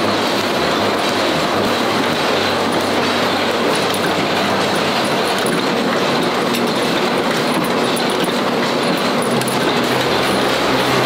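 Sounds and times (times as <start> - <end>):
machines clattering: 0.0 - 11.0.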